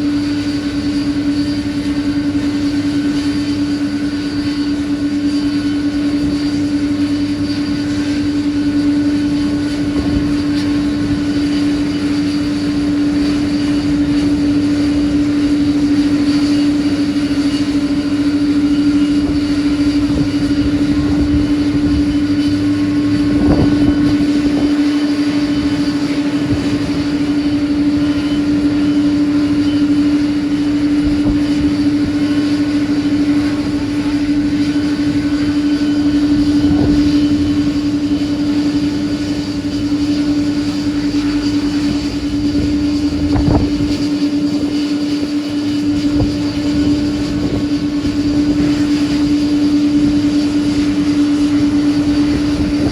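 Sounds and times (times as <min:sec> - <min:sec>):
jet airliner engines droning: 0:00.0 - 0:52.9.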